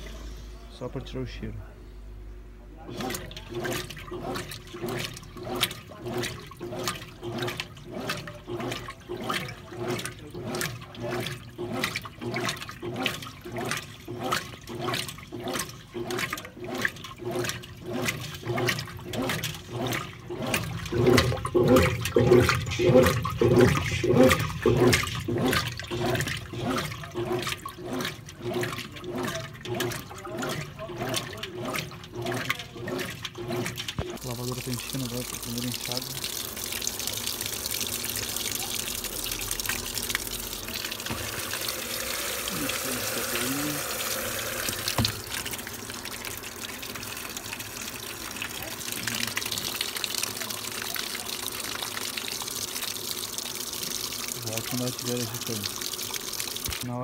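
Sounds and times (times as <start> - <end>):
washing machine hum: 0.0 - 1.8, 2.5 - 57.0
washing machine water sloshing: 2.7 - 57.0.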